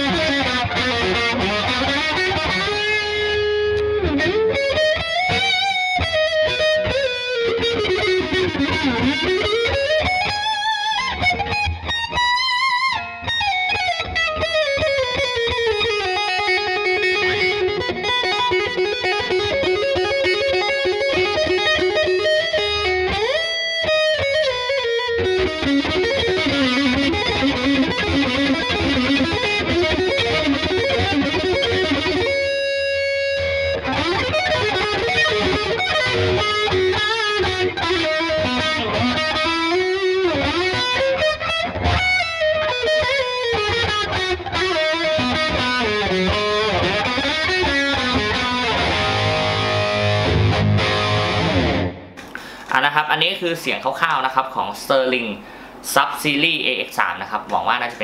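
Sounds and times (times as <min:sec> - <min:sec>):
distorted electric guitar lead: 0:00.0 - 0:55.8.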